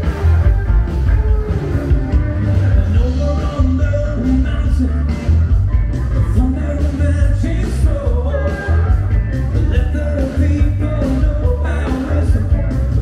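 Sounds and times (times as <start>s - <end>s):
heavy steady bass: 0.0s - 13.0s
rock song with singing: 0.0s - 13.0s.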